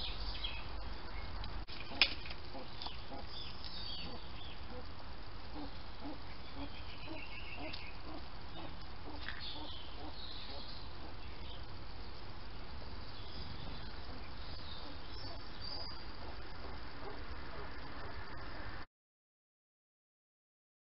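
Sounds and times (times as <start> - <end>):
small birds chirping: 0.0 - 18.6.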